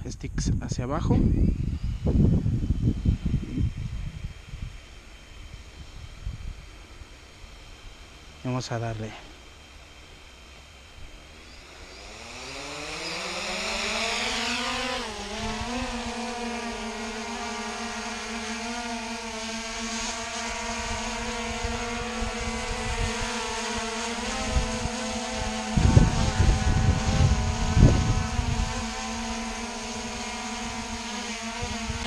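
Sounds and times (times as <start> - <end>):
drone motors whining: 0.8 - 32.0.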